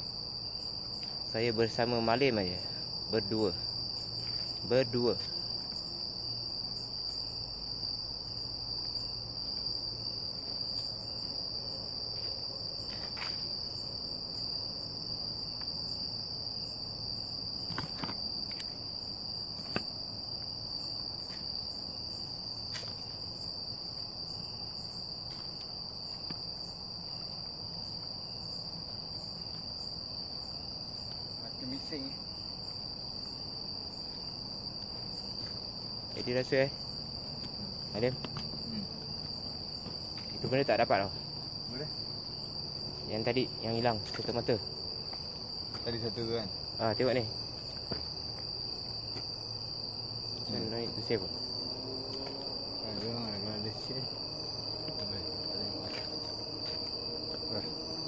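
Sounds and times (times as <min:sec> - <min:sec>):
high-pitched insect drone: 0:00.0 - 0:58.0
pulsing insect trill: 0:00.0 - 0:58.0.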